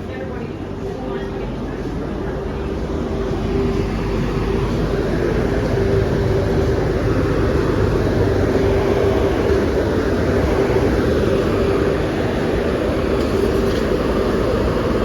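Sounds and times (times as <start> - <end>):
constant hum: 0.0 - 15.0
air dryer blowers rushing: 1.0 - 15.0.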